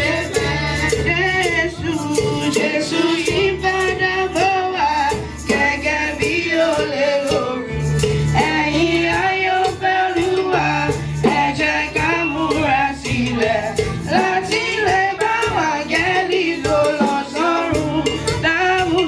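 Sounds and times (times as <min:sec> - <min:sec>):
held bass notes: 0:00.0 - 0:19.0
steady percussion beat: 0:00.0 - 0:19.0
voices singing a melody: 0:00.0 - 0:19.0.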